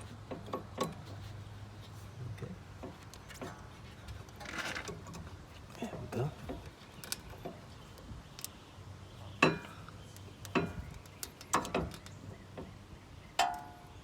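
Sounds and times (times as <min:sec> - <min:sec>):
metallic clicks of brake pads: 0:00.0 - 0:14.0.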